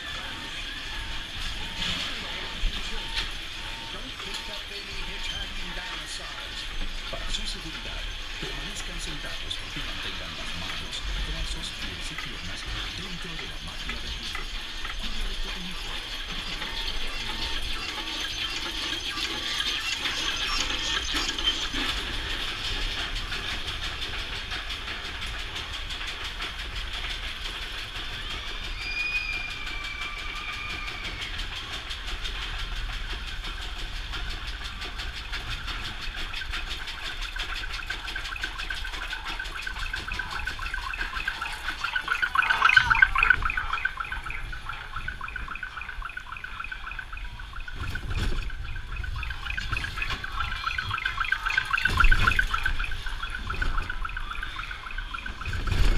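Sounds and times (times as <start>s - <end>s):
lift chain clicking clatter: 0.1s - 55.9s.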